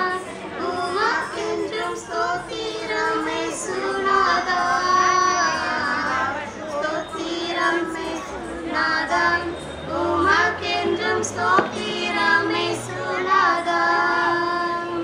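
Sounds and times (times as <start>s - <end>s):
women singing in chorus: 0.0s - 15.0s.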